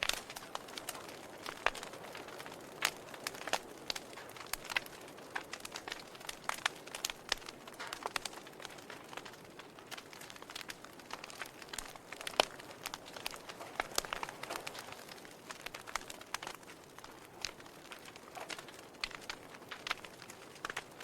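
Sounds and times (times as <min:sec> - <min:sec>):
logs crackling in fireplace: 0:00.0 - 0:21.0.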